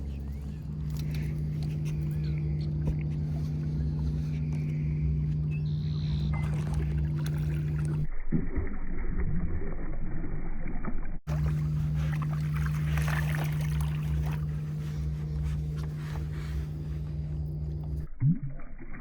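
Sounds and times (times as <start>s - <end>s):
boat motor humming: 0.0s - 10.6s, 11.2s - 18.1s.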